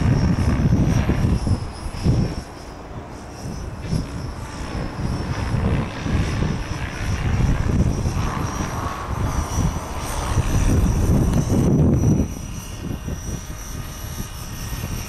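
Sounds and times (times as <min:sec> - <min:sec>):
distant helicopter high tones: 0:00.0 - 0:15.0
wind rumble on microphone: 0:00.0 - 0:15.0.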